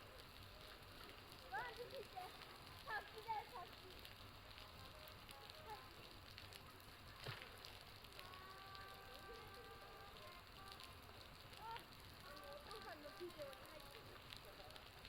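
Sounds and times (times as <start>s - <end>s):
faint crackling clicks: 0.0s - 15.0s
low hiss: 0.0s - 15.0s.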